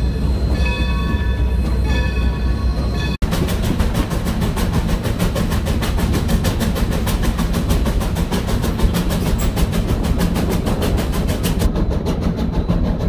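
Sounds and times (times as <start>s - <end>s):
steam locomotive rumbling: 0.0s - 13.0s.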